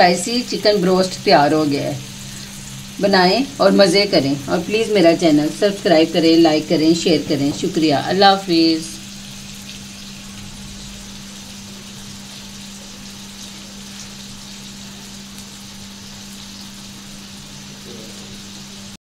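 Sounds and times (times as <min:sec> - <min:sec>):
constant low hum: 0:00.0 - 0:18.7.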